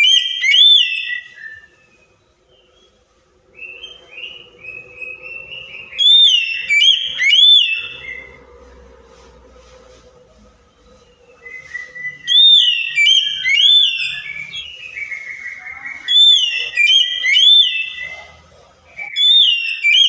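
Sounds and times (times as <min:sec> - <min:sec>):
bird singing whistled phrases: 0:00.0 - 0:08.4, 0:11.1 - 0:18.1, 0:19.0 - 0:20.0.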